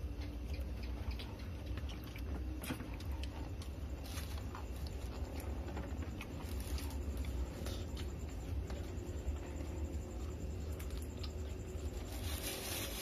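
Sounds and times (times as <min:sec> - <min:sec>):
fingers and food clicking and rustling: 0:00.0 - 0:13.0
steady low hum: 0:00.0 - 0:13.0.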